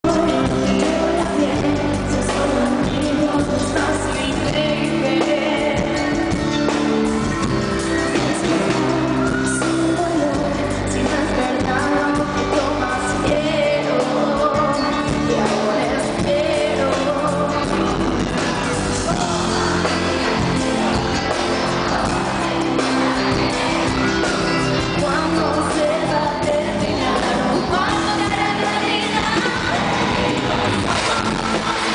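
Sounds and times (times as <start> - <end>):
live pop band playing: 0.0 - 31.9
woman singing lead: 0.0 - 31.9.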